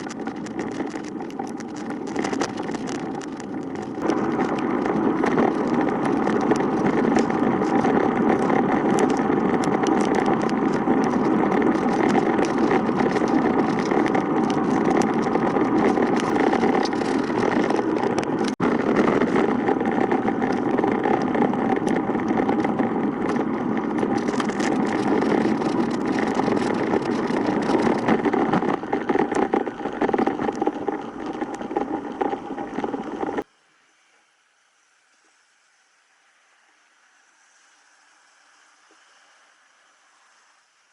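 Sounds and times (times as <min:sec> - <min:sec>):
engine running: 0:00.0 - 0:40.9
traffic and road noise: 0:00.0 - 0:40.9.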